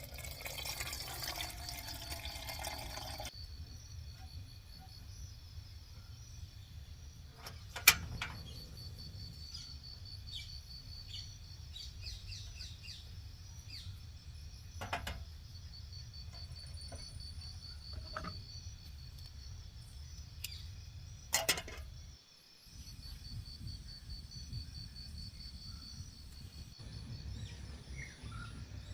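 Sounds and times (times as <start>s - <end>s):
insects trilling: 0.0s - 28.1s.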